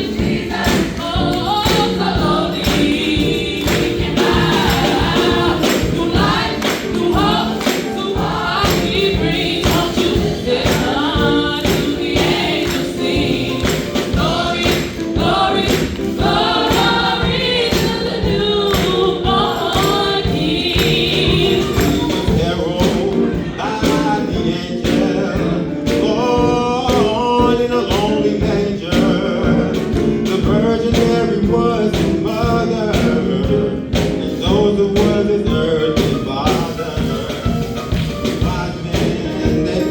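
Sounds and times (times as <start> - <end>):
choir singing gospel song: 0.0 - 39.9
percussion beat: 0.0 - 39.9.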